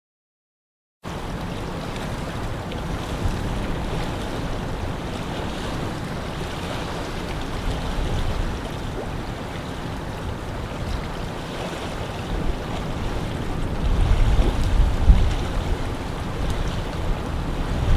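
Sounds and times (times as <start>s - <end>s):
water washing at shore: 1.1s - 17.9s
wind rumble on microphone: 1.2s - 17.9s.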